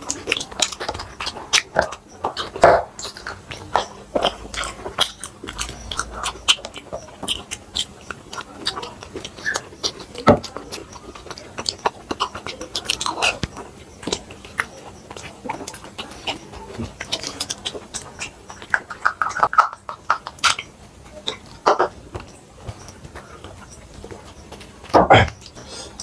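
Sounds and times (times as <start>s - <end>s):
people chewing and eating: 0.0s - 26.0s.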